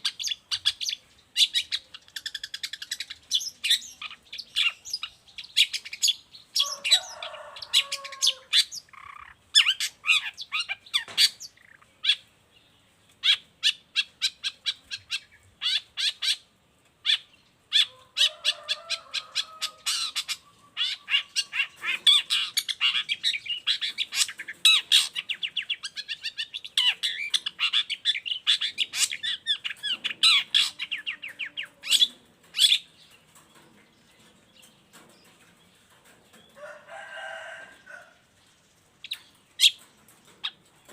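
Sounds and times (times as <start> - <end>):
harsh lower bird calls: 0.0 - 12.4, 13.2 - 38.4.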